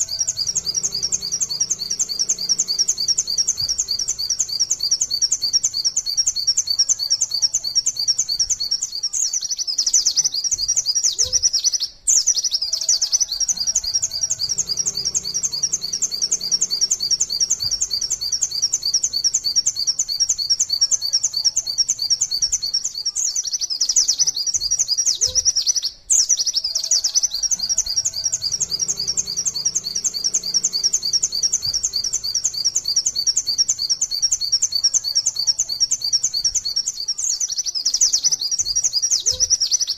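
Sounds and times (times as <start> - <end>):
white-eye bird singing: 0.0 - 39.9.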